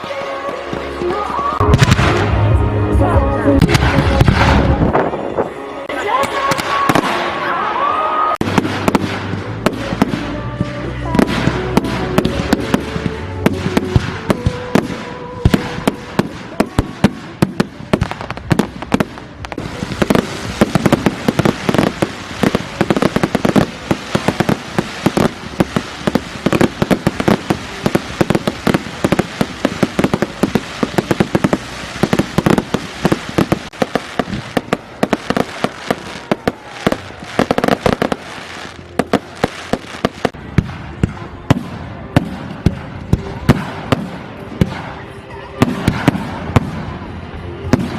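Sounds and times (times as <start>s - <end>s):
fireworks bangs and crackles: 0.0s - 7.7s, 8.3s - 47.9s.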